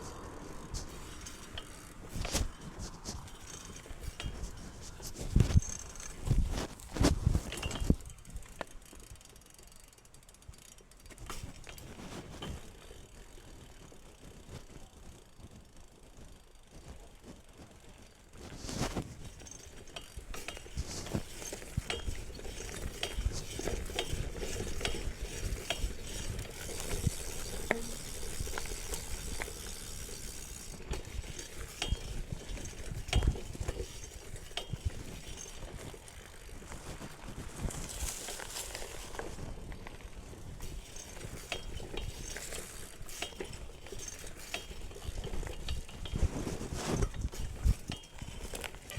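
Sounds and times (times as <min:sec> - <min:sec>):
bike tyres rolling: 0:00.0 - 0:48.9
bike hub ratchet clicking: 0:00.1 - 0:16.7, 0:19.2 - 0:36.7, 0:37.6 - 0:48.9.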